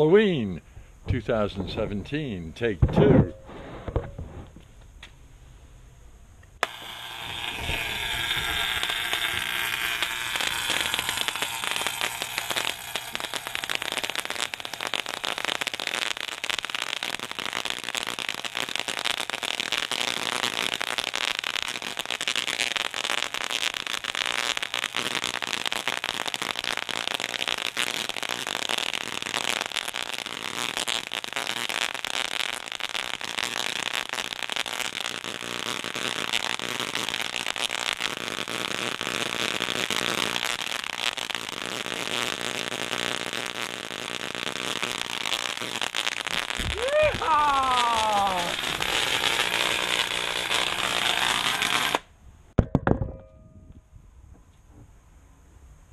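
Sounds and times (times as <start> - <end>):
tesla coil crackling buzz: 6.5 - 52.5.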